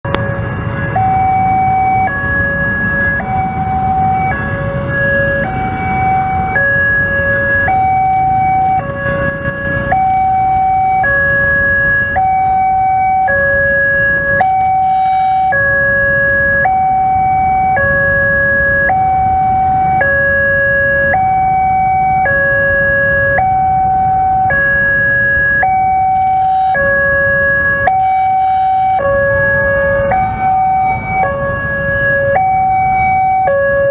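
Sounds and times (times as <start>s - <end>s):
idling traffic rumble: 0.0s - 33.9s
two-tone crossing alarm: 0.0s - 33.9s.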